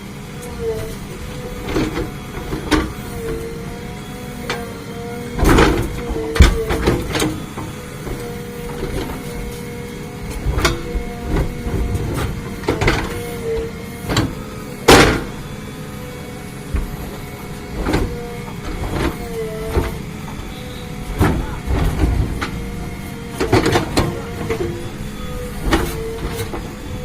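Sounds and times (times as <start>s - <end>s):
backhoe diesel engine whining: 0.0s - 27.0s.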